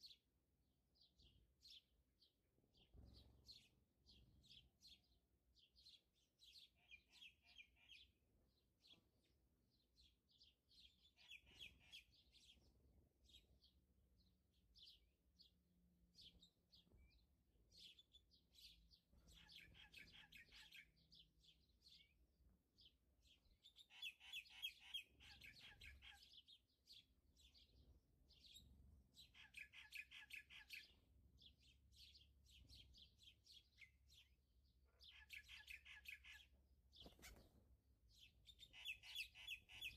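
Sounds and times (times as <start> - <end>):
faint bird chirping: 1.0 - 39.9.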